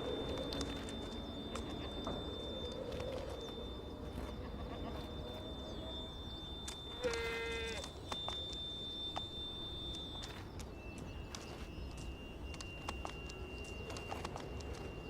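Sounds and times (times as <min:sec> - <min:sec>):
hooves clicking on rock: 0:00.0 - 0:05.5, 0:06.6 - 0:15.0.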